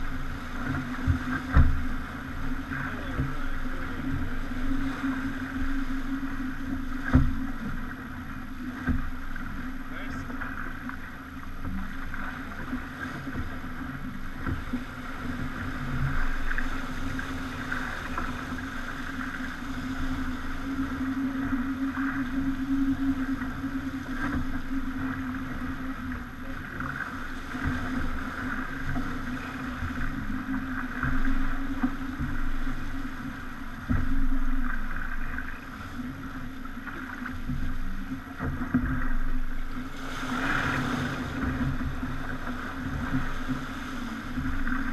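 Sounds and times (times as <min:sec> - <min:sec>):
steady low hum: 0:00.0 - 0:44.9
water slapping against hull: 0:00.0 - 0:44.9.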